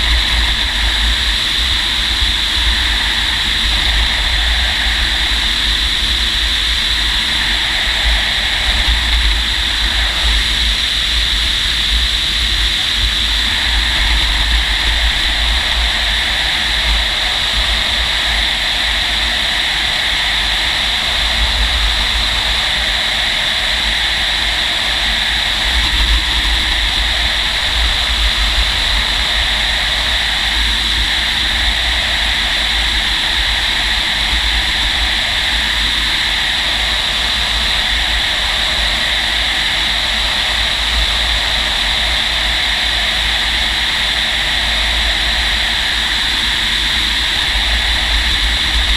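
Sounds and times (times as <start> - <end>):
low wind rumble: 0.0 - 48.9.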